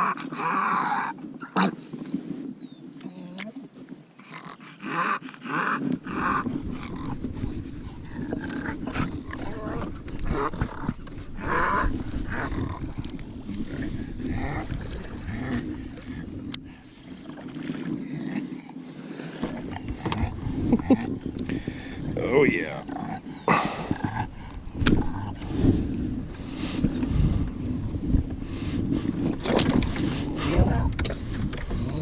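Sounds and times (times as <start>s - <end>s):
dog breathing and grunting: 4.2s - 32.0s.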